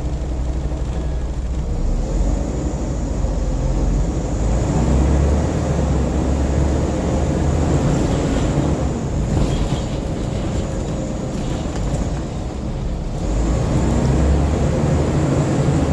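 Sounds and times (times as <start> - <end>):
bus engine drone: 0.0 - 15.9
road noise: 0.0 - 15.9.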